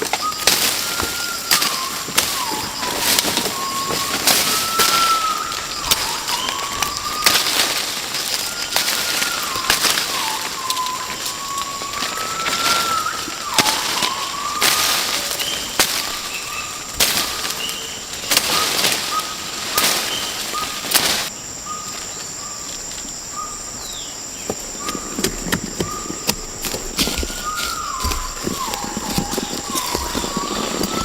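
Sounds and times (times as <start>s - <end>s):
bird calling in whistled notes: 0.0s - 22.6s, 27.0s - 31.0s
high insect drone: 0.0s - 31.0s.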